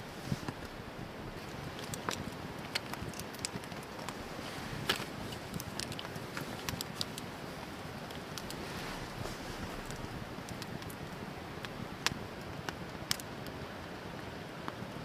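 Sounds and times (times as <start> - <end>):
campfire crackling and popping: 0.0 - 15.0
steady rushing hiss of fire: 0.0 - 15.0.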